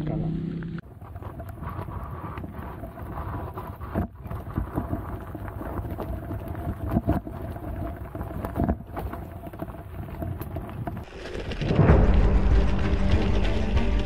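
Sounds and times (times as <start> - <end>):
bike tyres rumbling over stones: 0.8 - 14.0.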